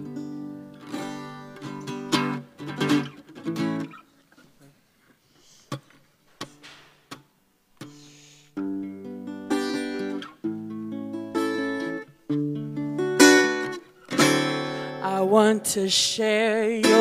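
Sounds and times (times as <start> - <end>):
acoustic guitar strumming: 0.0 - 4.5, 5.7 - 17.0.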